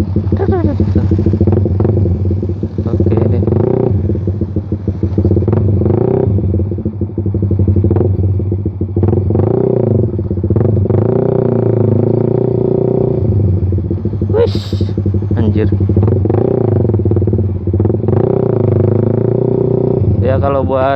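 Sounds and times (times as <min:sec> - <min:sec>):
motorcycle exhaust revving: 0:00.0 - 0:20.9.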